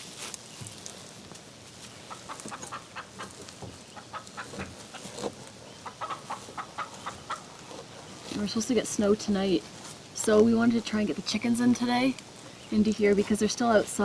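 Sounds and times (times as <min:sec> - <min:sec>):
moss rustling in log wall: 0:00.0 - 0:14.0
chickens clucking: 0:01.7 - 0:14.0.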